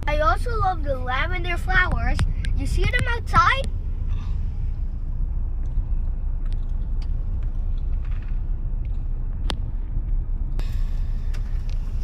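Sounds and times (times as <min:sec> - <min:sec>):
car idling from inside cabin: 0:00.0 - 0:12.0.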